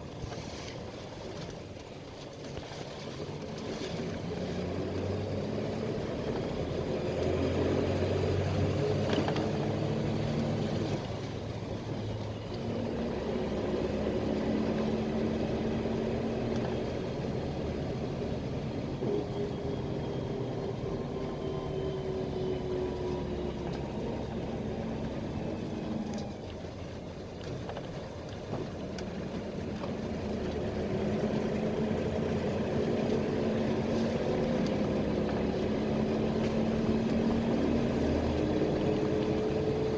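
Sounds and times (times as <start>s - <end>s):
bus engine: 0.0s - 39.9s
road noise: 0.0s - 39.9s.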